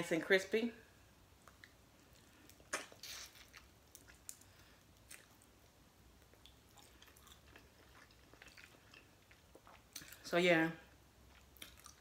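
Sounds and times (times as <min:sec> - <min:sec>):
quiet chewing with crackles: 0:01.3 - 0:12.0.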